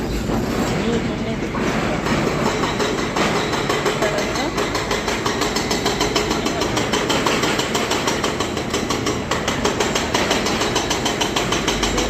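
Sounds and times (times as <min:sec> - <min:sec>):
hydraulic breaker hammer pounding: 0:00.0 - 0:12.0.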